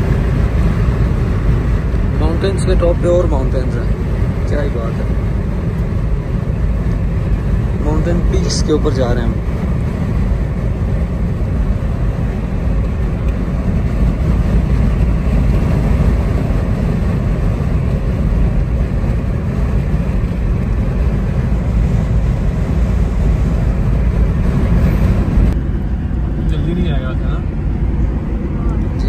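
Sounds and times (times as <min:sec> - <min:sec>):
road and engine rumble in car: 0:00.0 - 0:29.0.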